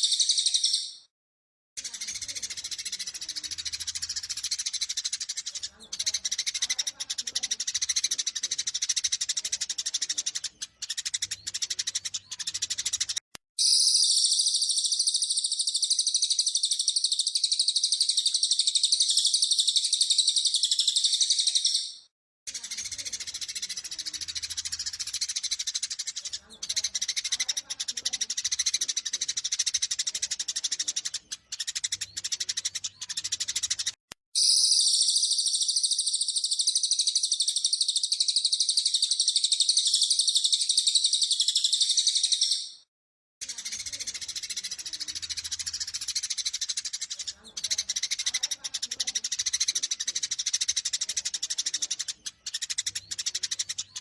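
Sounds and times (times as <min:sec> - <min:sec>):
high bird trill: 0:00.0 - 0:01.1, 0:01.8 - 0:54.0
sparrows chattering: 0:00.0 - 0:01.1, 0:01.8 - 0:54.0.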